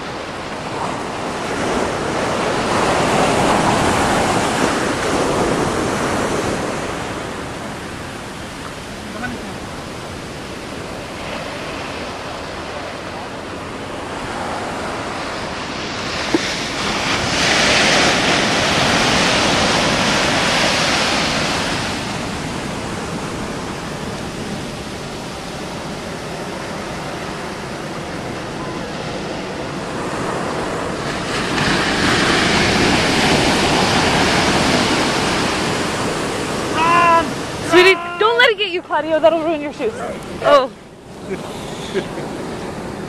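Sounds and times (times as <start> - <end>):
ocean waves crashing on beach: 0.0 - 43.0.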